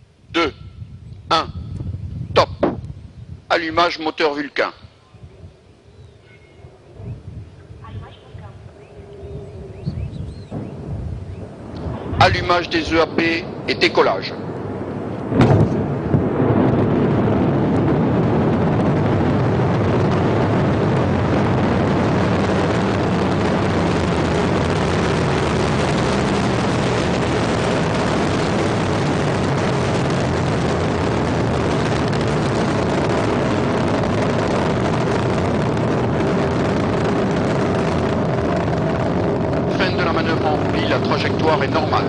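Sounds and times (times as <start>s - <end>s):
rocket engine roaring: 0.0s - 42.0s.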